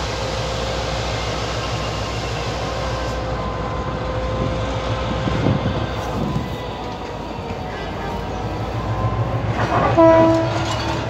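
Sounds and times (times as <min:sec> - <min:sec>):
train hum and rumble: 0:00.0 - 0:11.0.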